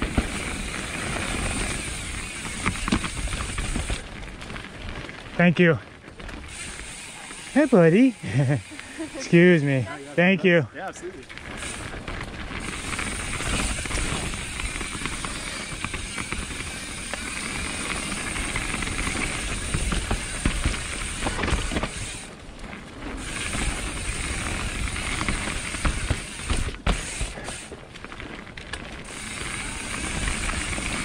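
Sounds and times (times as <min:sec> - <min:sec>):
bike rattling and knocking: 0:00.0 - 0:10.1, 0:11.2 - 0:31.0
bike tyres rolling on dirt: 0:00.0 - 0:31.0.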